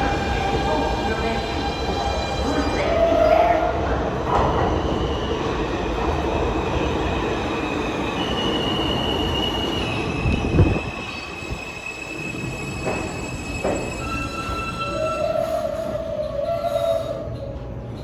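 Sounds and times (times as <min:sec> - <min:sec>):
subway wheels squealing: 0:00.0 - 0:18.0
train rumble: 0:00.0 - 0:18.0.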